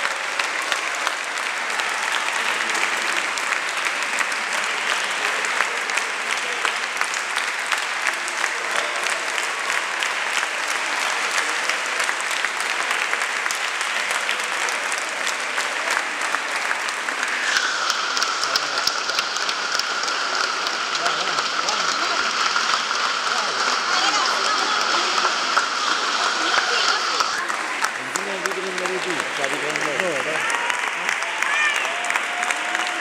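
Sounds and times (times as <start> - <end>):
large audience applauding: 0.0 - 33.0.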